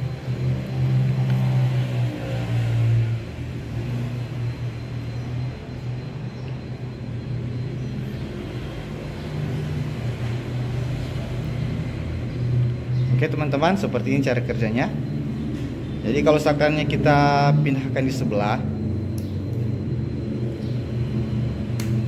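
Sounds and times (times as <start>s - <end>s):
engine rumbling: 0.0s - 22.0s.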